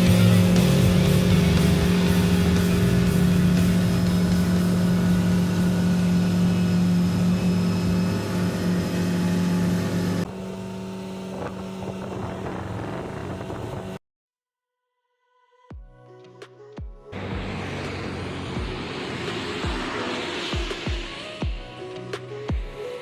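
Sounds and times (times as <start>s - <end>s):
motorboat engine humming: 0.0s - 14.0s, 17.2s - 22.4s.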